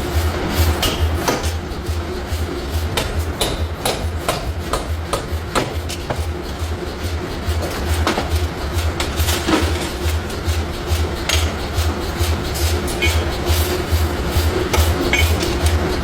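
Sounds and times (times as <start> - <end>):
clanks of steel being worked: 0.0 - 16.0
low pulsing hum: 0.0 - 16.0.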